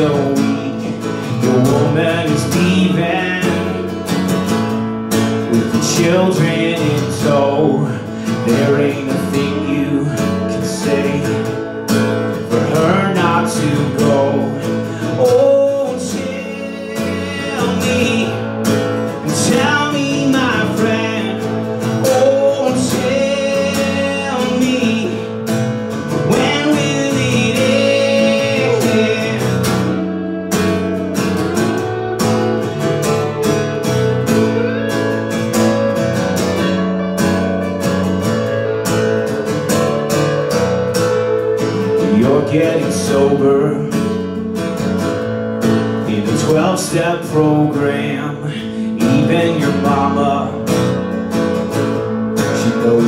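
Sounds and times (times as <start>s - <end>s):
acoustic guitar strumming: 0.0s - 53.0s
electric guitar lead melody: 0.0s - 53.0s.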